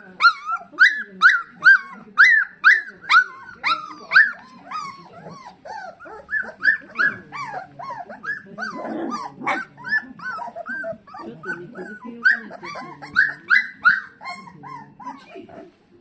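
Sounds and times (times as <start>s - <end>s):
puppies whining and yelping: 0.0s - 15.8s.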